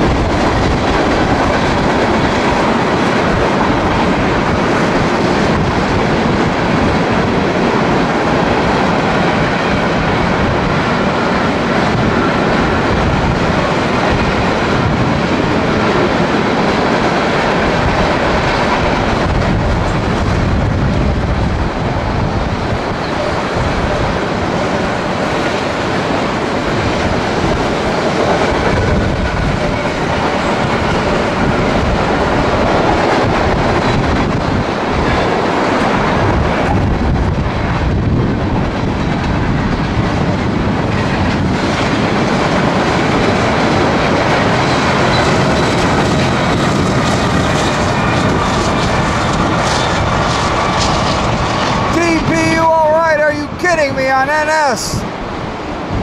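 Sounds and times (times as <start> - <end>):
train wheels clattering over rails: 0.0 - 51.9.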